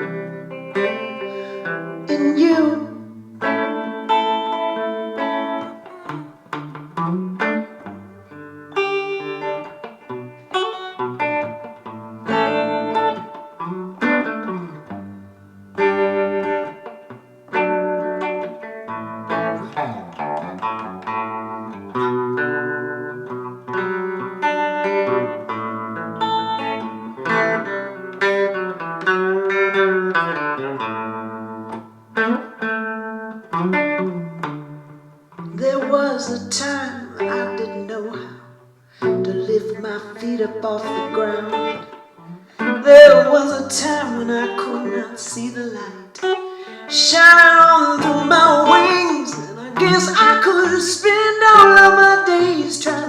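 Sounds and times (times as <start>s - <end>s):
guitar playing picked notes and chords: 0.0s - 53.0s.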